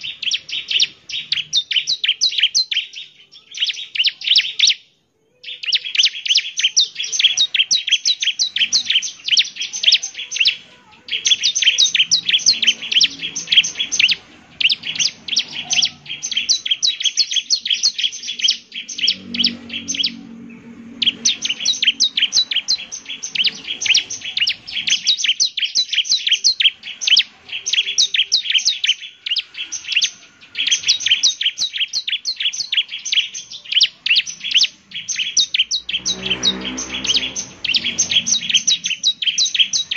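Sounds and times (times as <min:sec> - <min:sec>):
prinia singing high sharp notes: 0:00.0 - 0:39.9.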